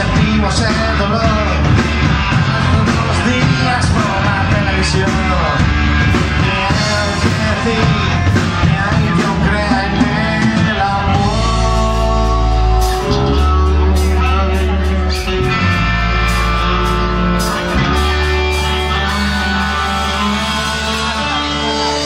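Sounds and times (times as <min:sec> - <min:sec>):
held guitar chords: 0:00.0 - 0:22.0
live rock band playing: 0:00.0 - 0:22.0
man singing: 0:00.0 - 0:22.0.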